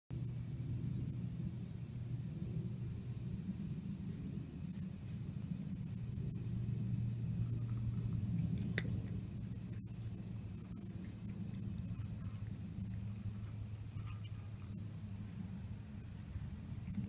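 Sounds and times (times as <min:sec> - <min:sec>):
low hum: 0:00.1 - 0:17.0.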